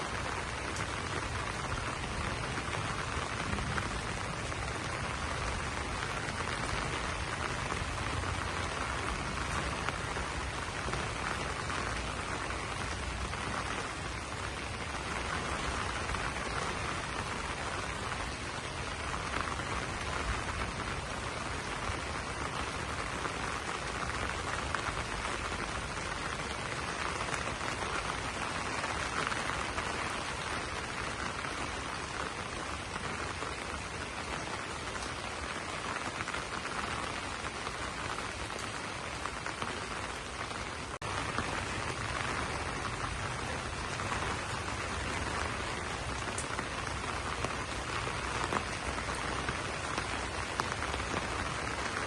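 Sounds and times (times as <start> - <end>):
rain pattering on leaves: 0.0 - 52.0.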